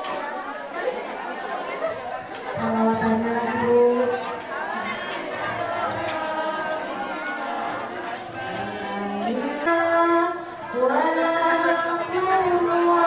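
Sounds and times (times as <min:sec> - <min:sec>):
person singing devotional chant: 0:02.5 - 0:13.0.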